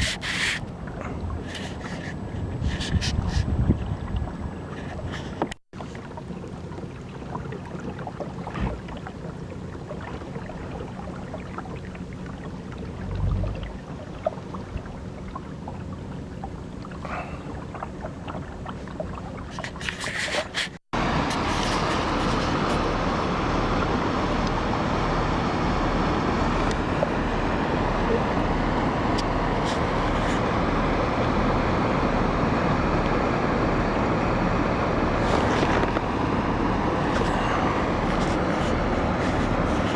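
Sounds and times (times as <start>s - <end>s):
water and wind rushing: 0.0s - 39.9s.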